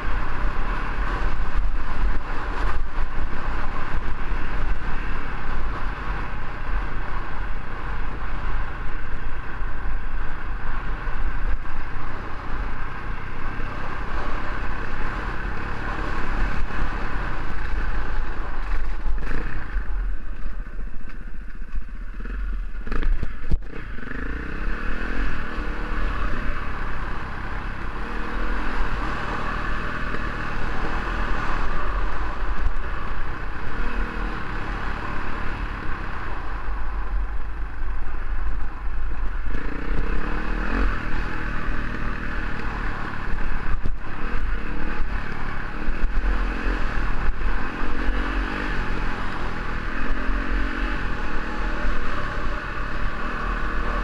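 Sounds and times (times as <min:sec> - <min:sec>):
motorcycle engine revving: 0:00.0 - 0:54.0
road and wind noise: 0:00.0 - 0:54.0.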